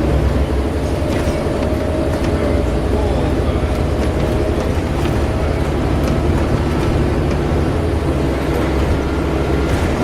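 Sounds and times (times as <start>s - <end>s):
bus engine droning: 0.0s - 10.0s.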